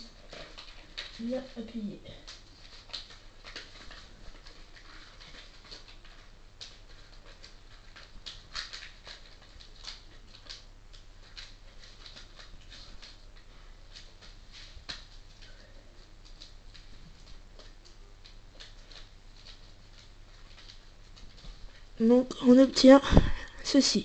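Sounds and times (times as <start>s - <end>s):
paper rustling and crinkling: 0.0s - 23.6s.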